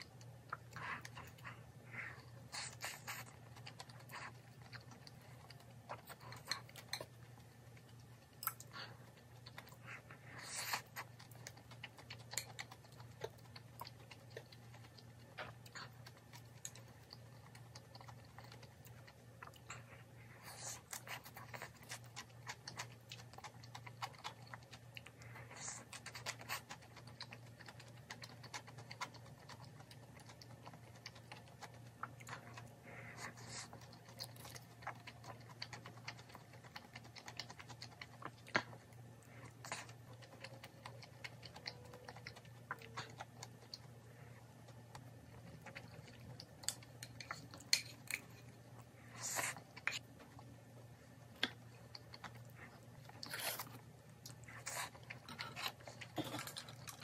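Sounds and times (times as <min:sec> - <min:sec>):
soft chewing: 0:00.0 - 0:57.0.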